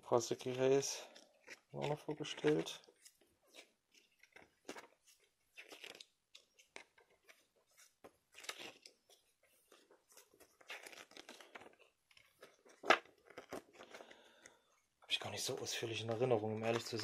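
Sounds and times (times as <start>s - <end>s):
paper pages turning: 0.3s - 14.6s, 15.3s - 17.0s.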